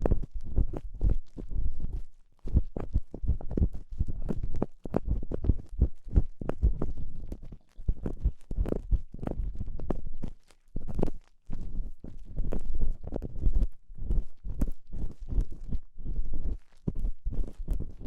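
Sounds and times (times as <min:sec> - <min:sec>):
dull low thumps: 0:00.0 - 0:18.0.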